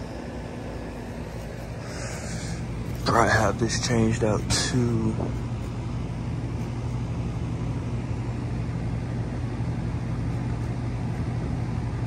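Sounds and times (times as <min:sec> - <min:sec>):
refrigeration machinery hum: 0:00.0 - 0:12.0.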